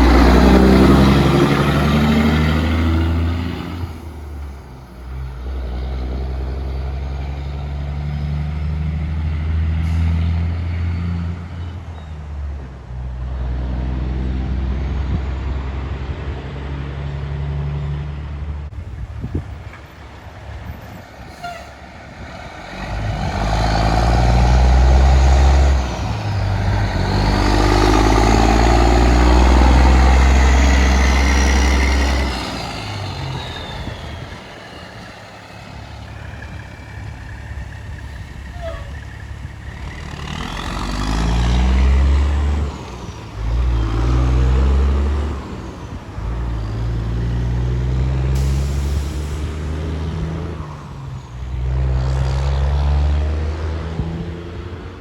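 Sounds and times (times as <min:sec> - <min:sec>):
diesel trucks driving past: 0:00.0 - 0:55.0.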